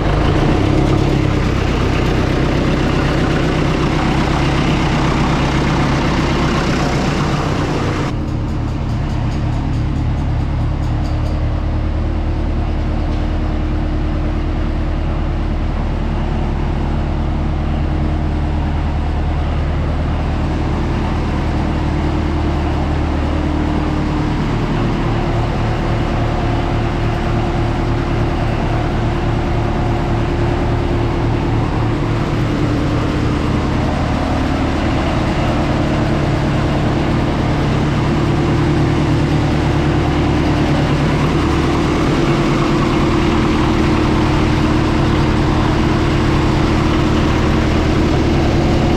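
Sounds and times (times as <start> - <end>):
diesel tractor engine idling: 0.0 - 48.9.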